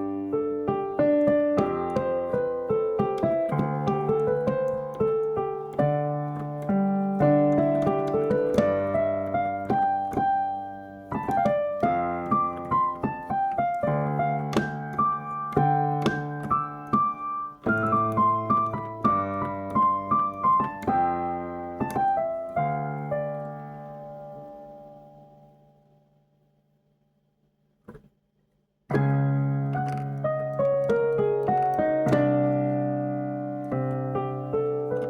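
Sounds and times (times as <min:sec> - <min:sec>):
piano music: 0:00.0 - 0:26.0, 0:28.9 - 0:35.0.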